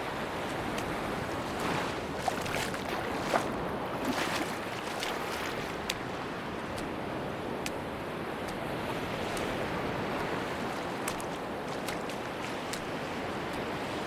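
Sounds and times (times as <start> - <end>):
sea waves washing on beach: 0.0 - 14.0.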